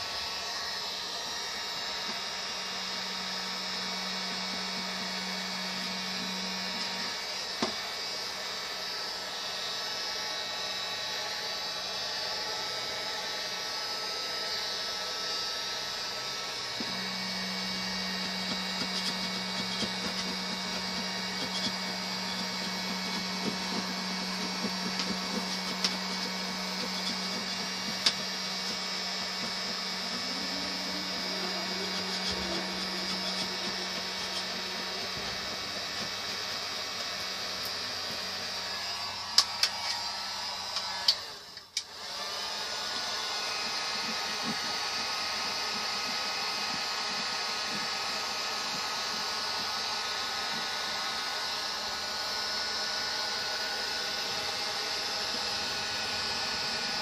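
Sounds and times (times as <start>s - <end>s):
small electric motor humming: 0.0s - 57.0s.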